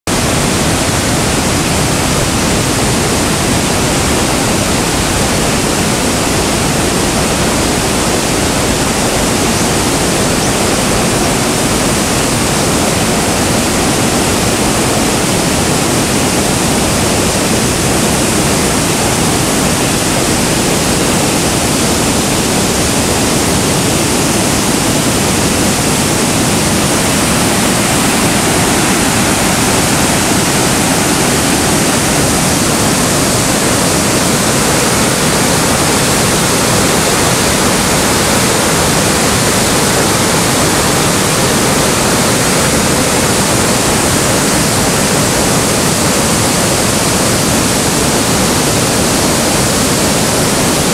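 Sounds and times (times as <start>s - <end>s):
river rapids rushing over rocks: 0.1s - 50.9s.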